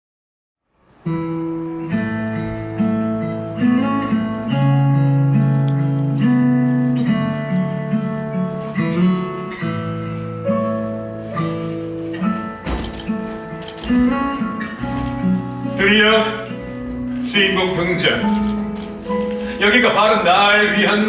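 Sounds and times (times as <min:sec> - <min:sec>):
strummed acoustic guitar music: 0:01.0 - 0:21.0.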